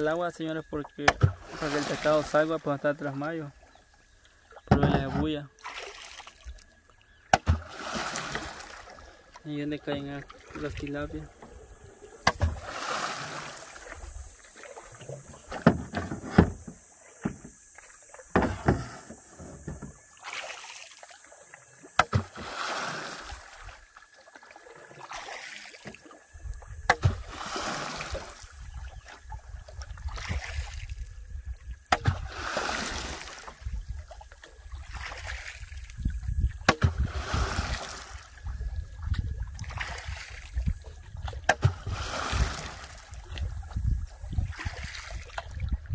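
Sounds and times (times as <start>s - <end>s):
water splashing around boat: 0.0s - 45.9s.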